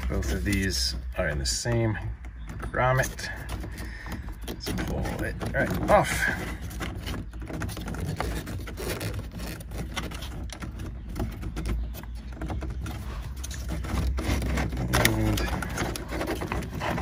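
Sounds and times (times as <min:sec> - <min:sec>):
plastic trim clicks and scrapes: 0:00.0 - 0:17.0.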